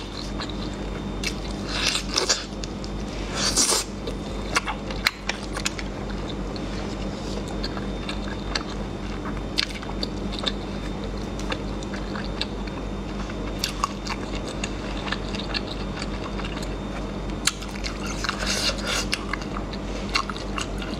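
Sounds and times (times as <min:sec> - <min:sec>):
person chewing: 0:00.0 - 0:20.9
steady low hum: 0:00.0 - 0:20.9.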